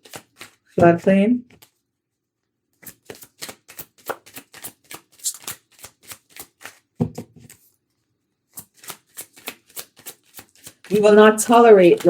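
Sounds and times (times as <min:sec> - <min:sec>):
cards being shuffled: 0:00.0 - 0:00.8, 0:01.5 - 0:01.8, 0:02.7 - 0:12.0.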